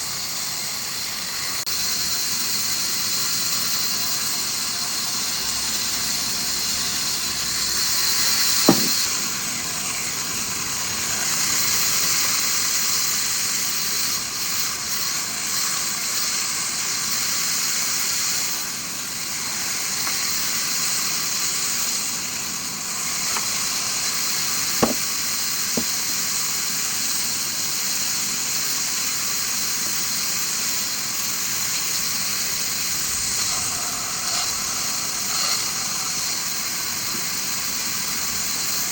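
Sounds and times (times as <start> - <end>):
wood-cutting machine hissing: 0.0 - 38.9.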